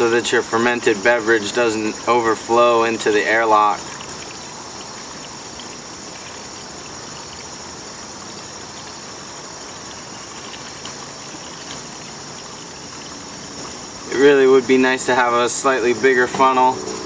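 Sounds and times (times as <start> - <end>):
liquid pouring into glass jug: 0.0 - 17.0
steady high-pitched whine: 0.0 - 17.0.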